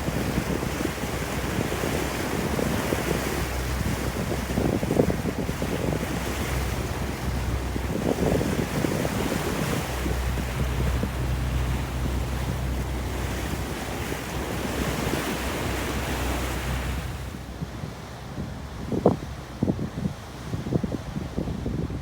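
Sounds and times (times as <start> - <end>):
sea water rushing: 0.0 - 21.8
wind buffeting microphone: 0.0 - 22.0.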